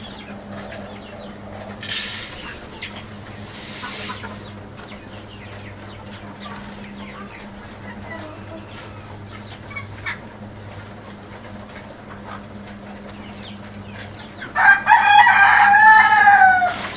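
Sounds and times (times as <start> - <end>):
steady low hum: 0.0 - 15.0
chickens clucking: 0.0 - 16.9.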